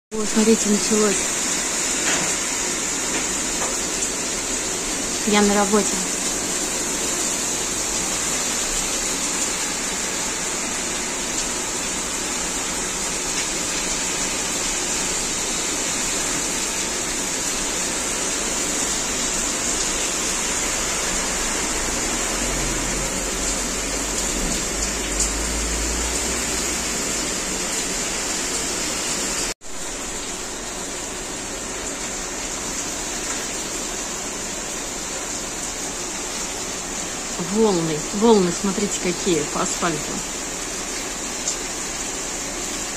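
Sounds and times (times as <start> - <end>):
heavy rain on asphalt: 0.1 - 42.9
water rushing across pavement: 0.2 - 42.9.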